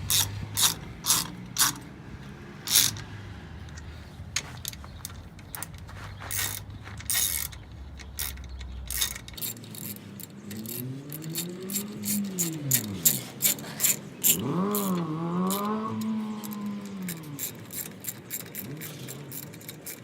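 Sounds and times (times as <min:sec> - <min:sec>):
ratchet wrench clicking: 0:00.0 - 0:01.9, 0:02.6 - 0:20.0.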